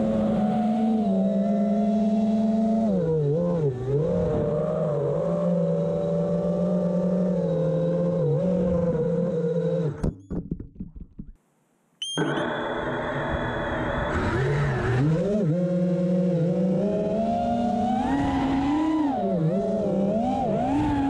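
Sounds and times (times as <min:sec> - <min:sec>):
drone motors whining: 0:00.0 - 0:10.1, 0:12.2 - 0:21.0.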